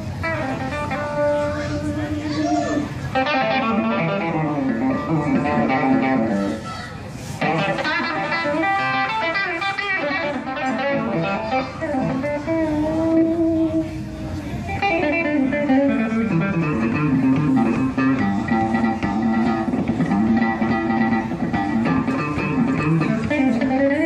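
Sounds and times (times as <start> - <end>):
electric guitar blues-rock solo: 0.0 - 24.0.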